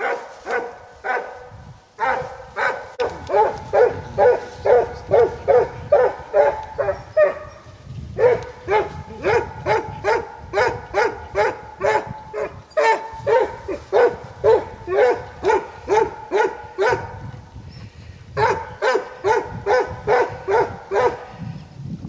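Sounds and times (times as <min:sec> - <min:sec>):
dog barking: 0:00.0 - 0:07.6, 0:08.2 - 0:17.2, 0:18.4 - 0:21.5.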